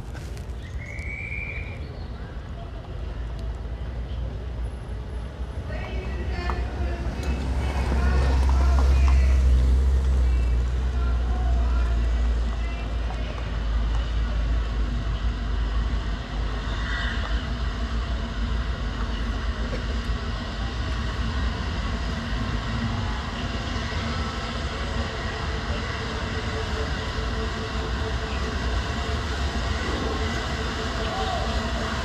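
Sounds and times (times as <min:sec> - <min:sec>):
low rumble of slow train: 0:00.0 - 0:32.0.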